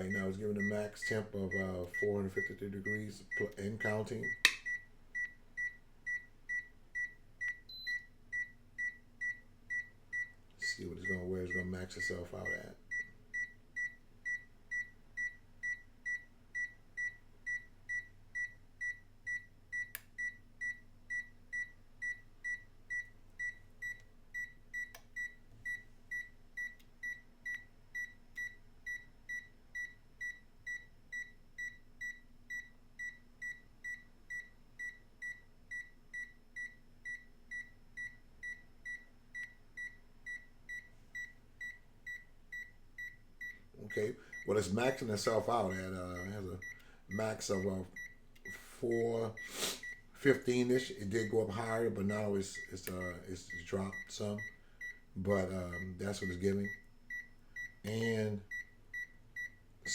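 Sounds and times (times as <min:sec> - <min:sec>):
multimeter beeping: 0:00.0 - 0:59.9.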